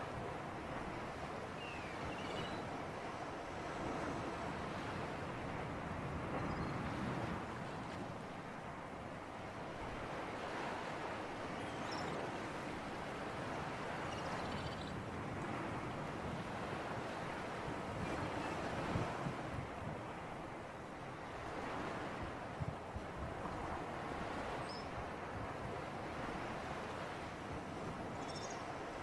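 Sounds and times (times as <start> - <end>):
sea breeze: 0.0 - 29.0.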